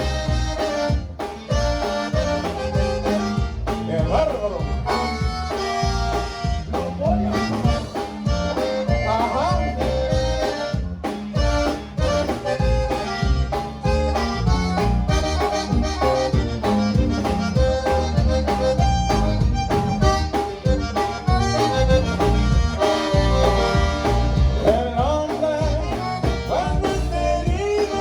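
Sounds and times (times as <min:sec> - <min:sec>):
accordion melody: 0:00.0 - 0:28.0
bass and drums: 0:00.0 - 0:28.0.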